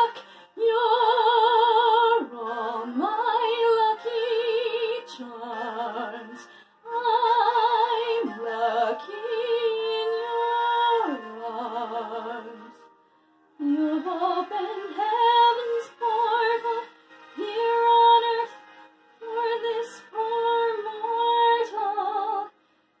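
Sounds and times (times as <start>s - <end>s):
woman singing with vibrato: 0.0s - 12.8s, 13.6s - 18.6s, 19.2s - 22.5s.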